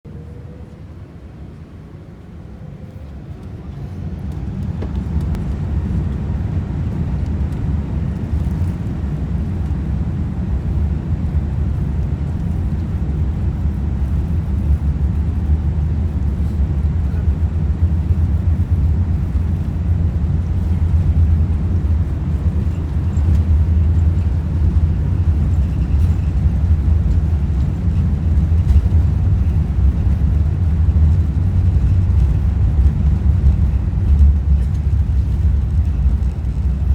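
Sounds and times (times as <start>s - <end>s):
jet engines rumbling in cabin: 0.1s - 36.9s.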